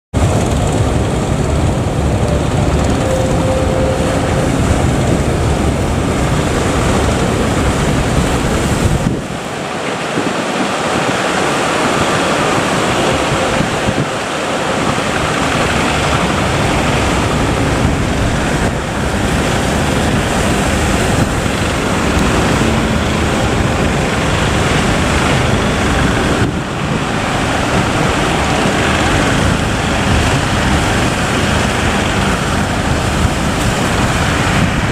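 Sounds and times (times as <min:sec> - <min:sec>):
wind buffeting microphone: 0:00.2 - 0:34.9.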